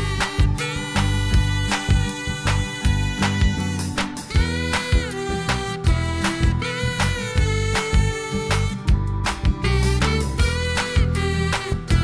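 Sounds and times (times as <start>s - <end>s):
upbeat music with drum beat: 0.0s - 12.0s.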